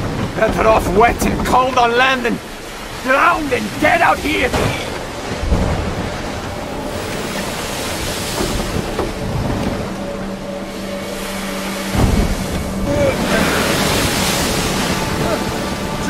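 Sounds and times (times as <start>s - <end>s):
water surge: 0.0s - 16.0s
waves crashing around a boat: 0.0s - 16.0s
wind: 0.0s - 16.0s.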